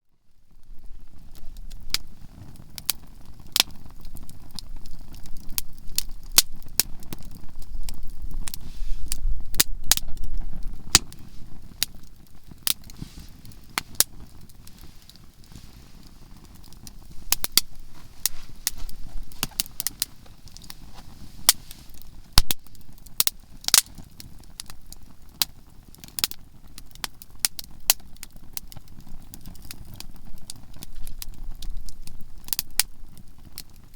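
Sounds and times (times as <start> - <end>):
campfire crackling and popping: 0.2 - 33.9.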